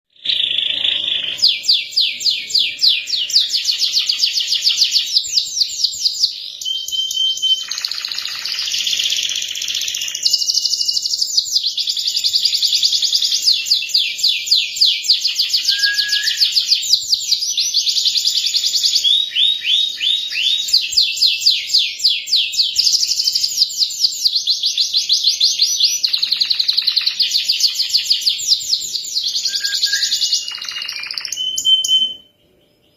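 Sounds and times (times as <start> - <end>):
canary singing trills: 0.1 - 32.9.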